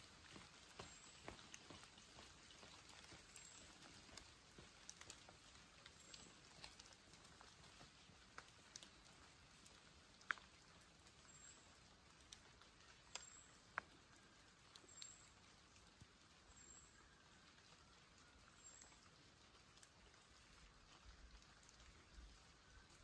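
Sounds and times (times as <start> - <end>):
rain dripping: 0.0 - 23.0.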